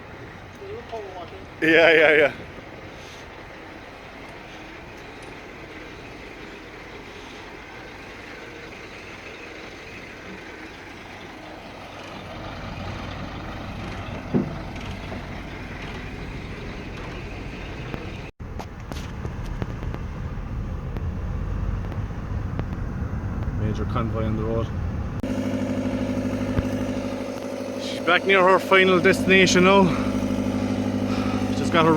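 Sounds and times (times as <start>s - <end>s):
truck engine rumble: 0.0s - 31.9s.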